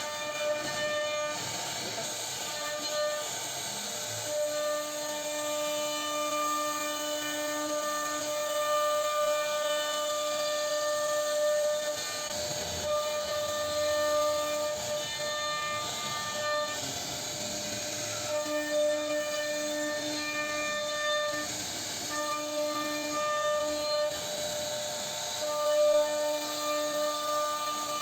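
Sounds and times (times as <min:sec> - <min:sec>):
hiss of cutting wood: 0:00.0 - 0:28.0
router spindle whine: 0:00.0 - 0:28.0.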